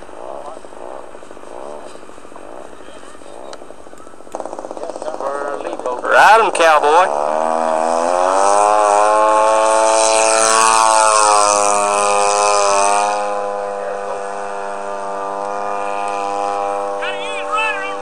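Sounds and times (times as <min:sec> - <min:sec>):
model plane engine and propeller: 0:00.0 - 0:18.0.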